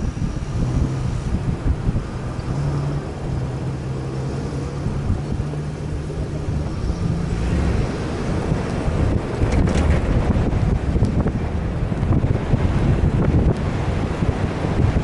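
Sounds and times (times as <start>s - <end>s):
vehicle engine running: 0.0s - 15.0s
wind noise: 0.0s - 15.0s.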